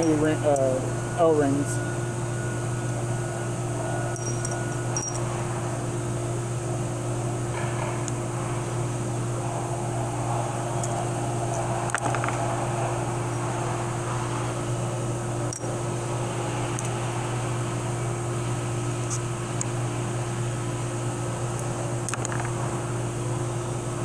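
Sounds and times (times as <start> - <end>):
fan or motor humming: 0.0 - 24.0.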